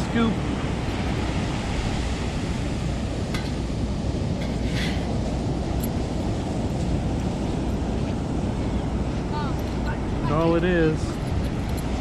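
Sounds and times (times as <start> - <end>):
beach surf washing: 0.0 - 12.0
wind rumbling on microphone: 0.0 - 12.0.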